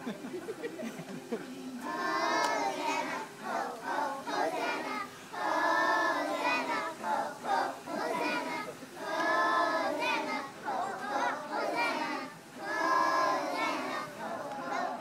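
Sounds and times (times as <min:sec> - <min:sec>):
children singing: 0:01.8 - 0:15.0.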